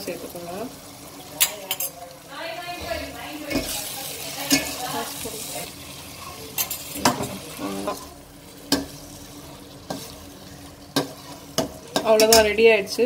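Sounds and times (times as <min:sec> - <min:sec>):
frying sizzle: 0:00.0 - 0:13.0
metal spoon stirring in pot: 0:01.3 - 0:02.1, 0:02.8 - 0:12.7.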